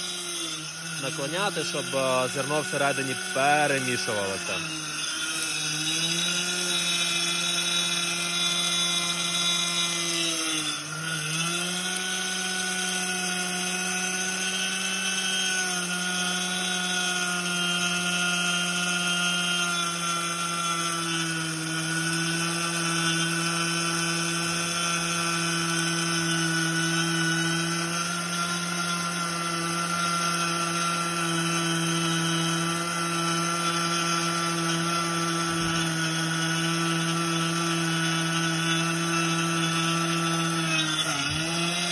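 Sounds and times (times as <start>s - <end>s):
grain mill motor whine: 0.0s - 41.9s.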